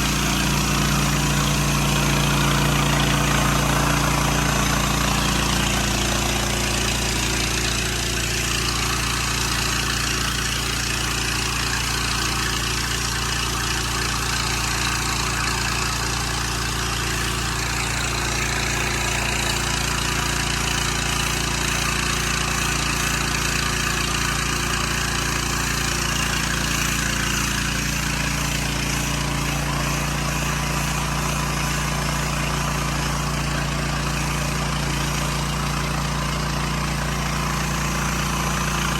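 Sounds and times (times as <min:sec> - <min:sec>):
pressure washer engine running: 0:00.0 - 0:38.9
water spraying hiss: 0:00.0 - 0:38.9.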